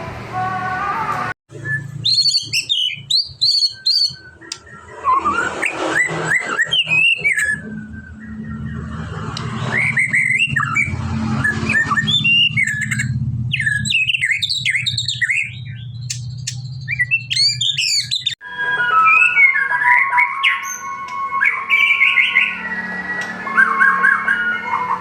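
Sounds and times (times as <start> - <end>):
bird singing whistled phrases: 1.5 - 8.9, 9.5 - 25.0.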